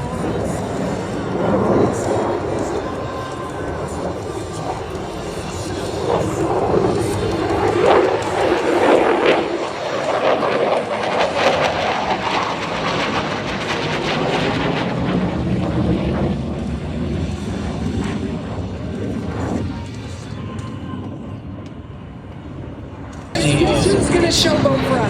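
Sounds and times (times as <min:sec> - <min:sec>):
jet flying past roaring: 0:00.0 - 0:25.0.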